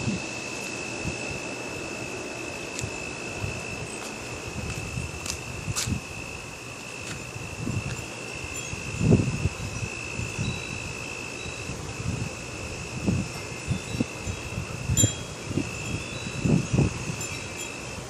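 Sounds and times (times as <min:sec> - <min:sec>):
wind buffeting microphone: 0:00.0 - 0:01.8, 0:02.6 - 0:11.0, 0:11.6 - 0:18.0
high clear ringing tones: 0:00.0 - 0:18.0.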